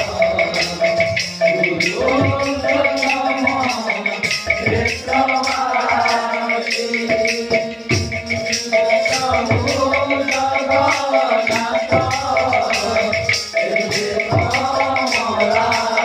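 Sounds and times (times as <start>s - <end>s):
hand cymbals ticking: 0.0s - 16.0s
voices singing a chant: 0.0s - 16.0s.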